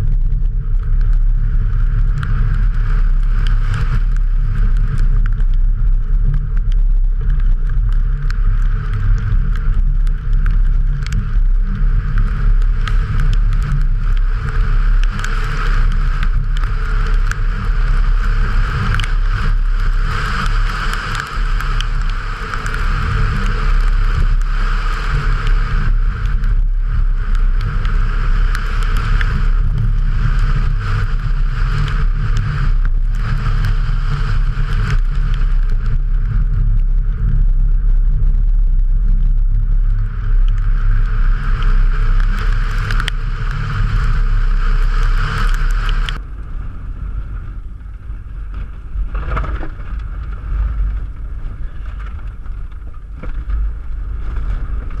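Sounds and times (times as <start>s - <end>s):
road and wind noise: 0.0s - 55.0s.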